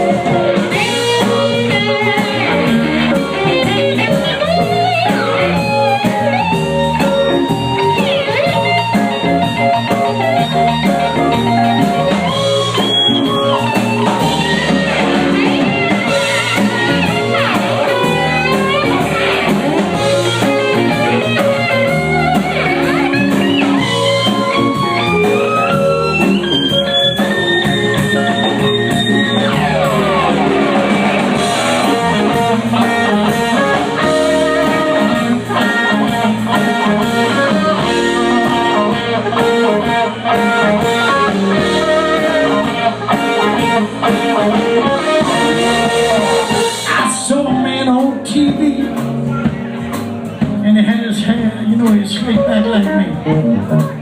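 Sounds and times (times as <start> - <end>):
lead guitar solo: 0.0 - 50.5, 52.3 - 54.0
blues-rock band playing: 0.0 - 54.0.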